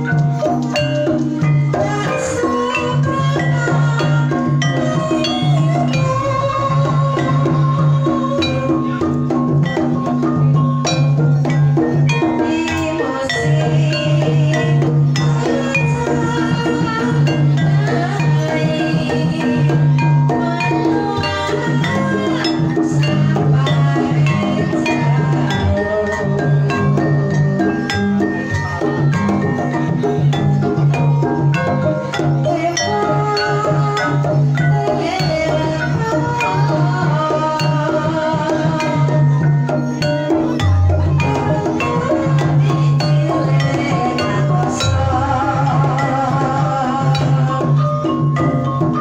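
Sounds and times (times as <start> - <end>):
drumming: 0.0 - 49.0
gamelan music: 0.0 - 49.0
tuned percussion ensemble: 0.0 - 49.0.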